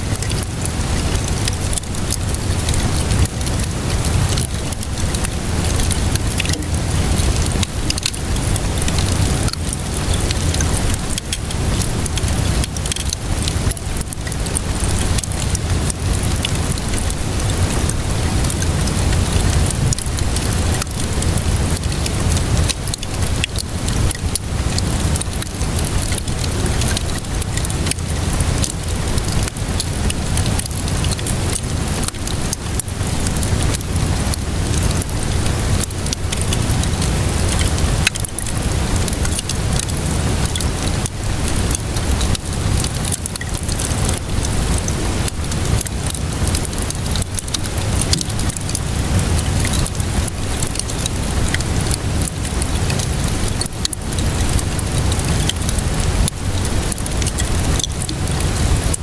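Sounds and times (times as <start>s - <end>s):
steady rainfall: 0.0s - 59.0s
wood fire crackling: 0.0s - 59.0s.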